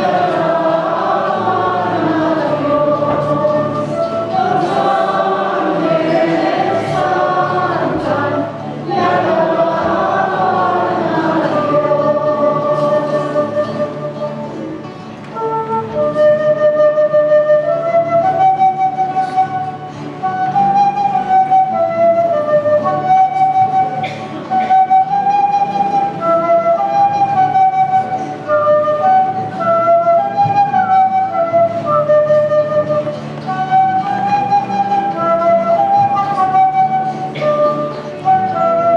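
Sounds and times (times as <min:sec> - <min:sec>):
wind instrument church melody: 0:00.0 - 0:38.9.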